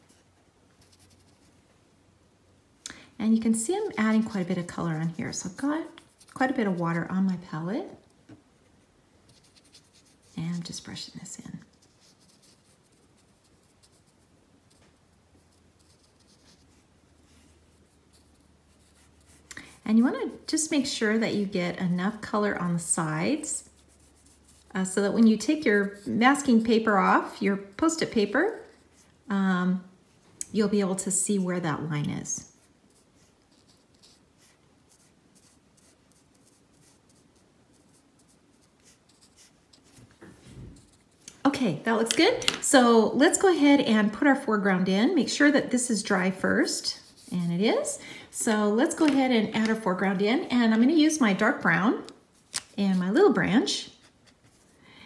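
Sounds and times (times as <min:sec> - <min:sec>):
brush rustling on paper: 0:00.0 - 0:01.7, 0:03.2 - 0:54.8.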